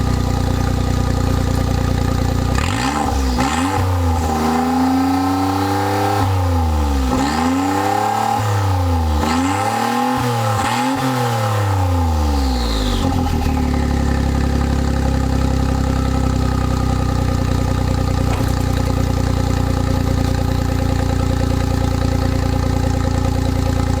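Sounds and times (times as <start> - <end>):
unsilenced engine revving and idling: 0.0 - 24.0.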